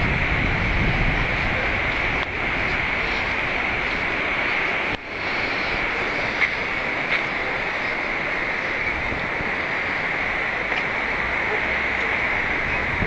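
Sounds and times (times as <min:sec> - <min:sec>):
outdoor rushing hiss: 0:00.0 - 0:13.0.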